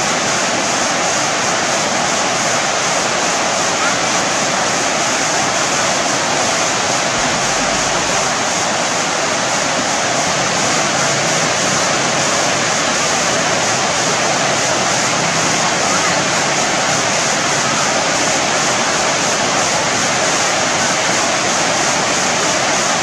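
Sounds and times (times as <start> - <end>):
water rushing over a weir: 0.0 - 23.0.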